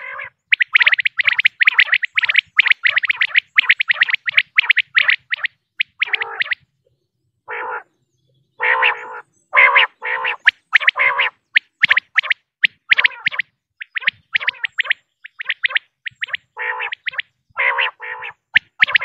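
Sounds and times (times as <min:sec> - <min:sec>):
quail harsh croaking: 0:00.0 - 0:06.6, 0:07.5 - 0:07.9, 0:08.6 - 0:19.0
quail chirping: 0:00.0 - 0:06.7, 0:07.5 - 0:07.9, 0:08.5 - 0:19.0.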